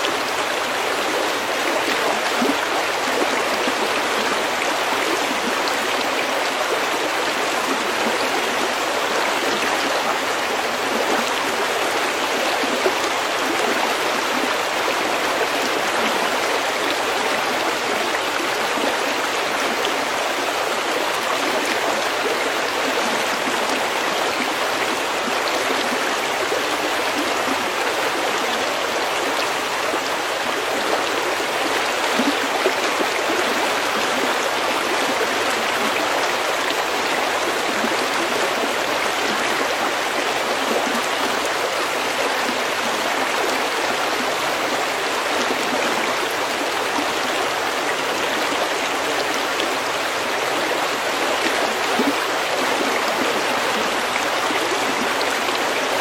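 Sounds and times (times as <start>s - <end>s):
stream babbling over pebbles: 0.0s - 56.0s.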